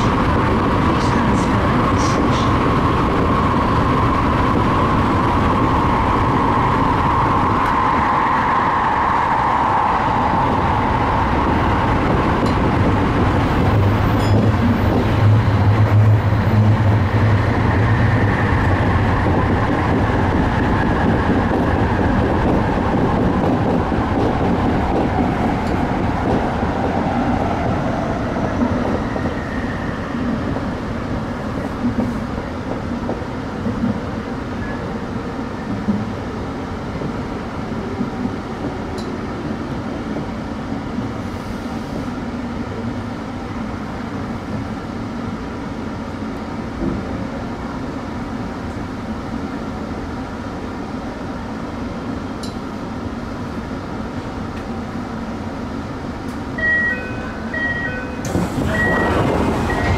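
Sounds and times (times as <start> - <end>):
train wheels and motors rumbling: 0.0 - 59.9.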